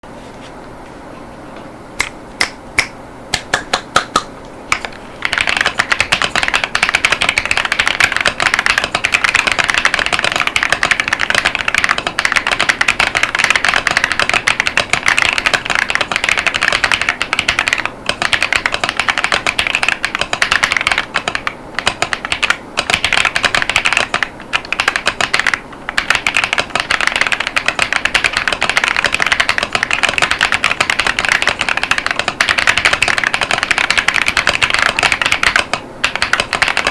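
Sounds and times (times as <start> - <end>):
mechanical keyboard typing: 4.7 - 36.9.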